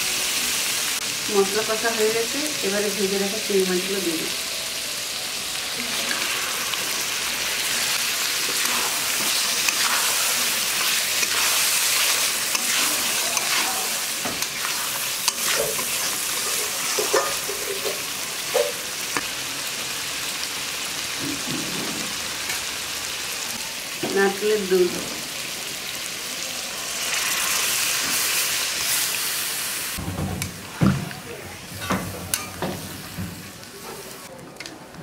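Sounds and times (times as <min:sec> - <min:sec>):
prawns sizzling in a pan: 0:00.0 - 0:30.0, 0:30.6 - 0:34.3.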